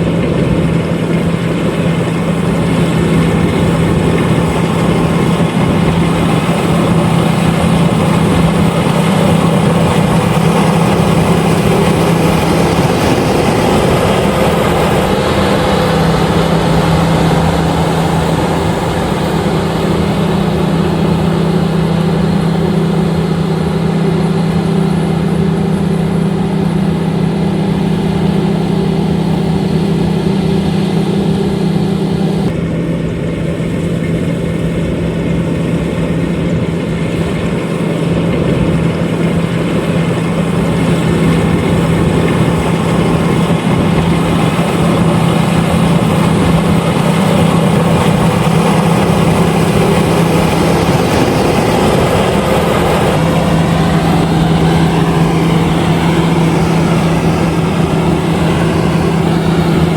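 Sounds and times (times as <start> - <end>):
combine harvester running: 0.0 - 59.9
low engine hum: 0.0 - 59.9.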